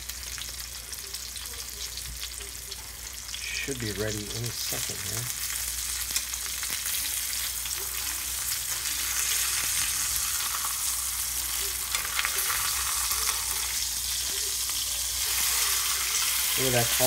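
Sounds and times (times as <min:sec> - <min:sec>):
steak sizzling in oil: 0:00.0 - 0:17.0.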